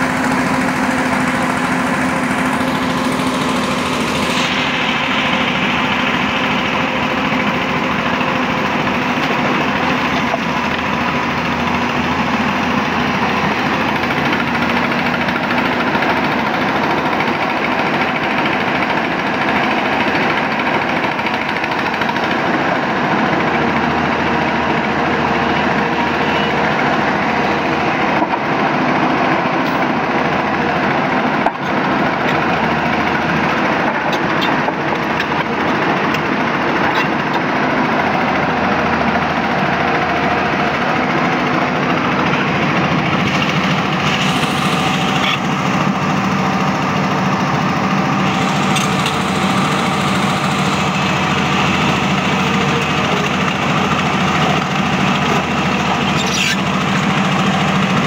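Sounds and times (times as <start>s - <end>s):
excavator engine: 0.0s - 58.0s
water pump engine running: 0.0s - 58.0s.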